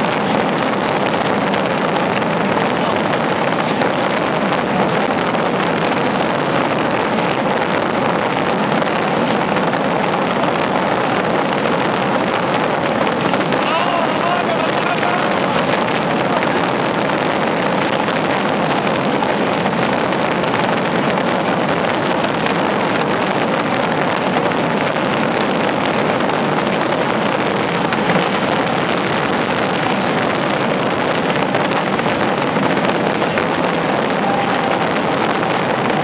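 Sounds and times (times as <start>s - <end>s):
rockets bursting overhead: 0.0s - 36.0s.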